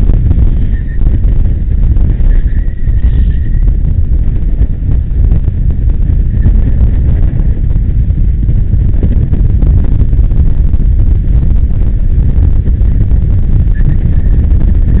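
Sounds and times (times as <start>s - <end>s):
faint high whine: 0.0s - 15.0s
wind buffeting microphone: 0.0s - 15.0s.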